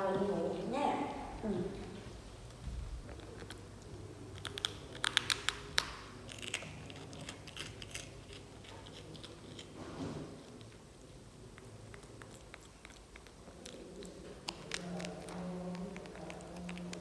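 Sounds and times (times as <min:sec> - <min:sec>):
monkey crunching dry bread: 0:03.0 - 0:17.0.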